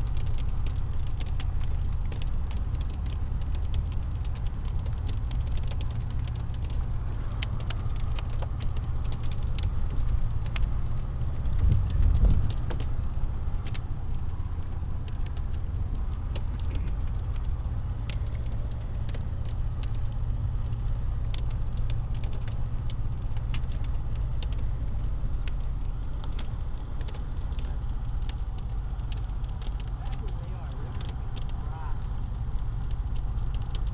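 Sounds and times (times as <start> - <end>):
car road and engine rumble: 0.0 - 33.9
hail ticking on car: 0.0 - 33.9.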